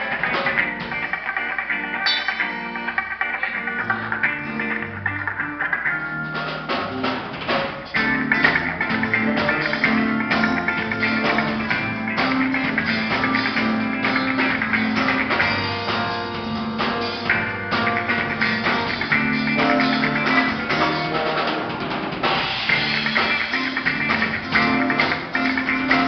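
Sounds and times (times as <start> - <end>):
guitar strumming: 0.0 - 26.0
live band playing: 0.0 - 26.0.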